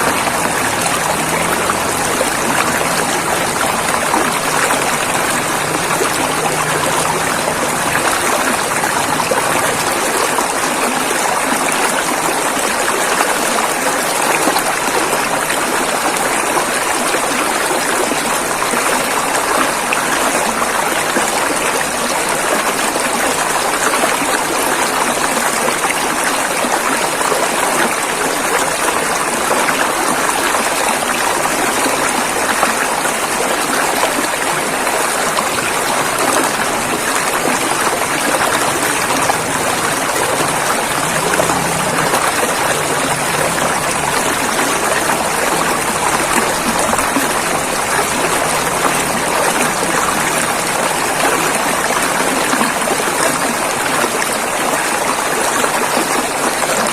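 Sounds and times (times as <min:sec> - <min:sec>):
river water rushing over rocks: 0:00.0 - 0:56.9.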